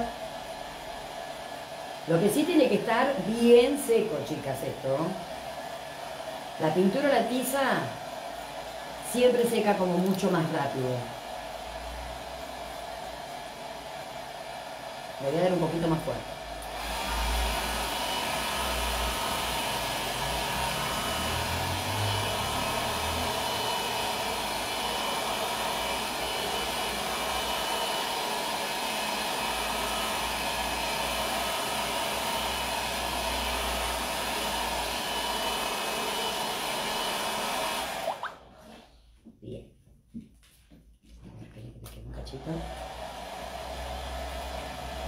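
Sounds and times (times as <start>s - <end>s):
hair dryer running: 0.0s - 38.9s, 42.2s - 45.0s.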